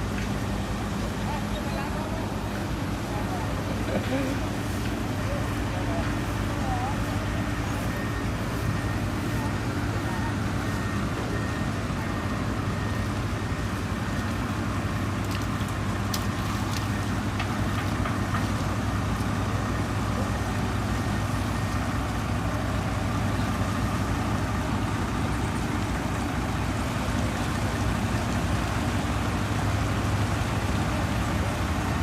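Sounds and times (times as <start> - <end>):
truck diesel engine droning: 0.0 - 32.0.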